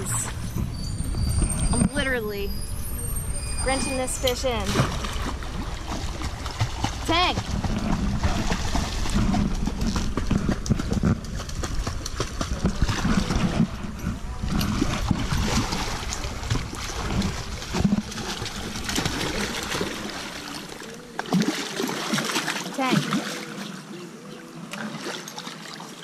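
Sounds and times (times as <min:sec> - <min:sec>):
low microphone rumble: 0:00.0 - 0:21.3
water splashing and churning: 0:00.0 - 0:26.0.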